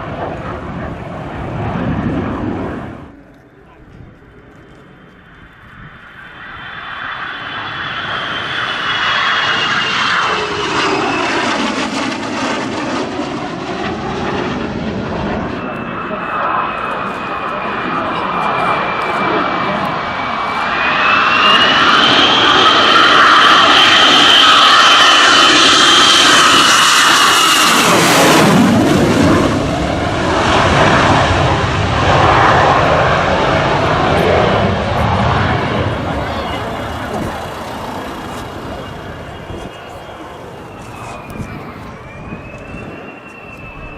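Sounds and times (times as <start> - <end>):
fighter jets flying past: 0.0 - 43.9.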